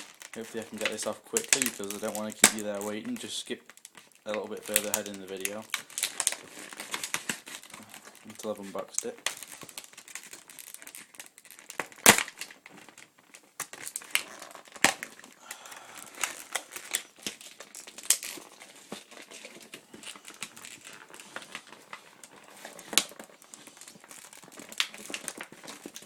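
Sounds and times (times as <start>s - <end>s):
packaging crinkling: 0.0s - 26.0s.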